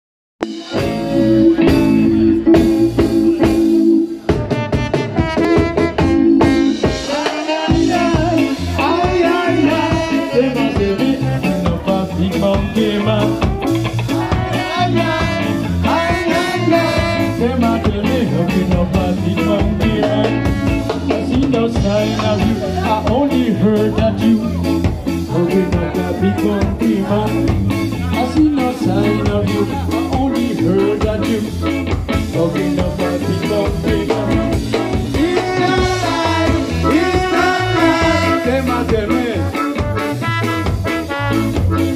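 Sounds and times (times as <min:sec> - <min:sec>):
ska band playing live: 0:00.4 - 0:41.9.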